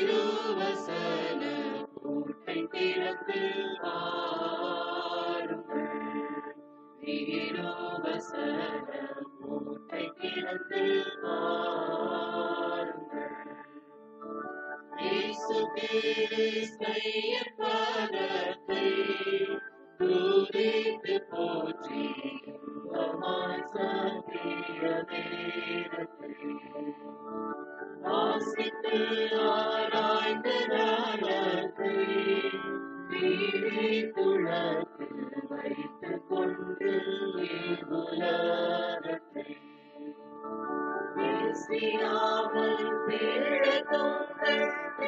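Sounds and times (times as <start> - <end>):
hymn being sung: 0.0 - 13.7, 15.0 - 26.9, 27.9 - 39.8, 41.1 - 45.0
sustained accompanying chords: 0.0 - 45.0.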